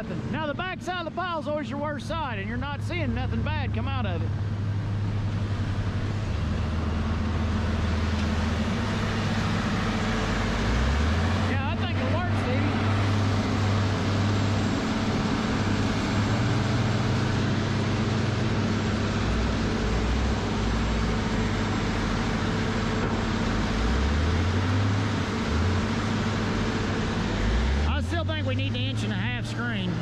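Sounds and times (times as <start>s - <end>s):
wood grinder diesel engine droning: 0.0s - 30.0s.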